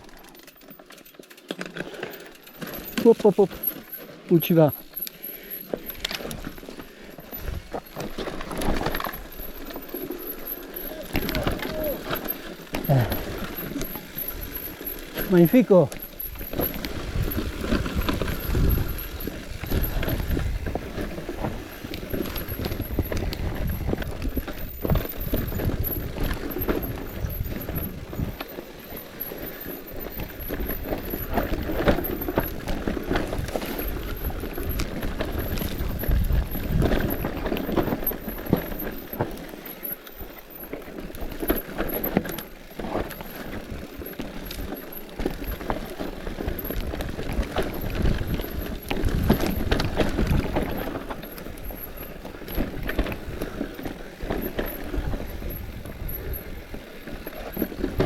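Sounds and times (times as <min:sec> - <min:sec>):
bicycle rattles and knocks: 0:00.0 - 0:58.0
wind and tyre rumble: 0:00.0 - 0:58.0.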